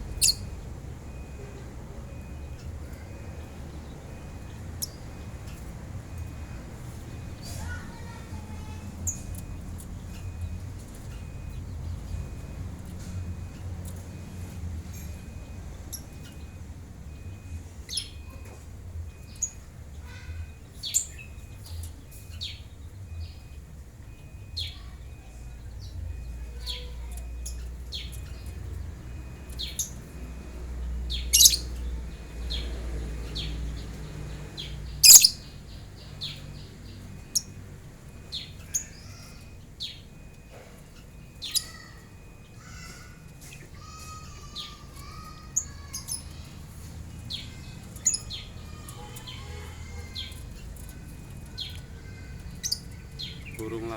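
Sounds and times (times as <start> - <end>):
lovebirds chirping: 0.0 - 12.6, 14.8 - 53.9.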